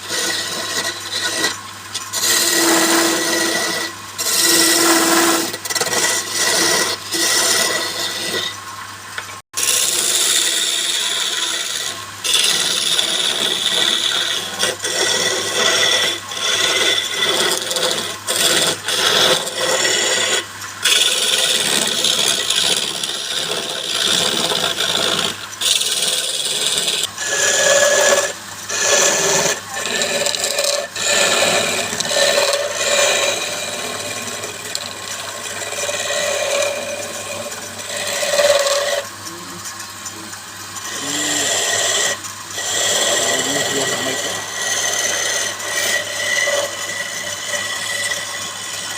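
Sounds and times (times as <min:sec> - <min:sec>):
wood lathe scraping hiss: 0:00.0 - 0:08.6, 0:09.6 - 0:48.9.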